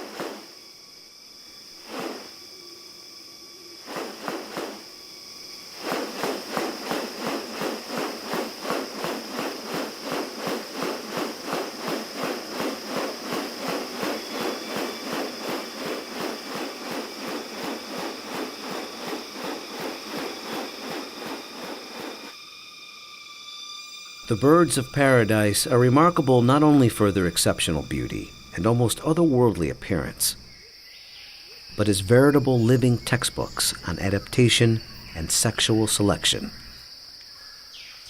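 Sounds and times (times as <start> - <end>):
insects shrilling: 0.0 - 38.0.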